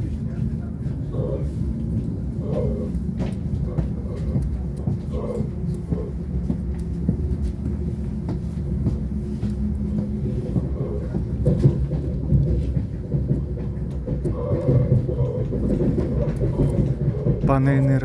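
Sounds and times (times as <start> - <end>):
train running rumble: 0.0 - 18.0
train wheel clicks: 1.8 - 18.0.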